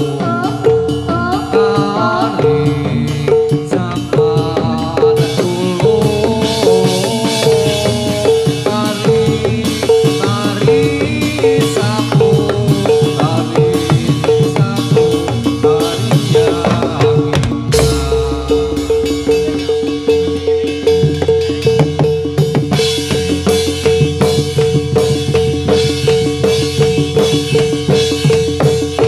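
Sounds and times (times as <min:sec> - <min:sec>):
drumming and percussion: 0:00.0 - 0:29.0
gamelan music: 0:00.0 - 0:29.0.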